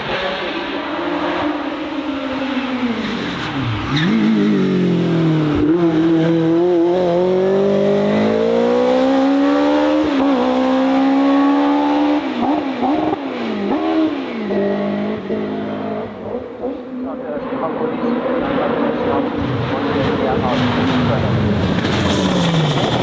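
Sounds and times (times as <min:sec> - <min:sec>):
race car engine at hard throttle: 0:00.0 - 0:23.0.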